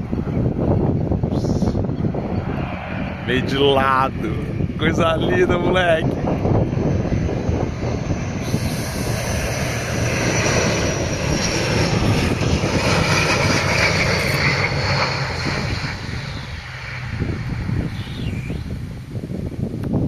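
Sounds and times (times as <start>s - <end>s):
high engine whine: 0.0s - 20.0s
turboprop engines rumbling: 0.0s - 20.0s.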